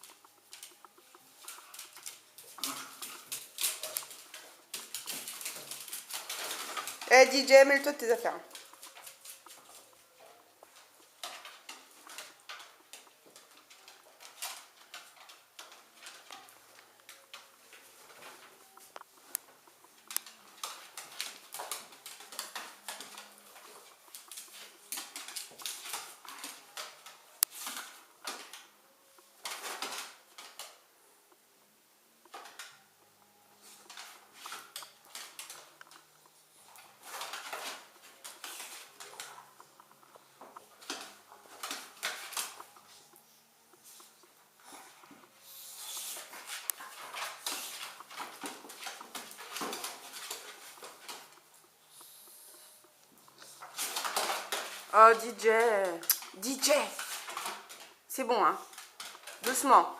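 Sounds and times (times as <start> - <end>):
dog claws clicking on hard floor: 0.0 - 28.7, 29.4 - 30.8, 33.6 - 43.1, 43.8 - 59.9.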